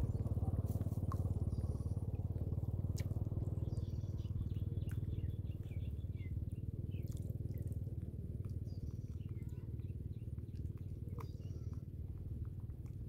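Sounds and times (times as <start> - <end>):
low pulsing engine drone: 0.0 - 13.0
small birds chirping faintly: 0.0 - 13.0.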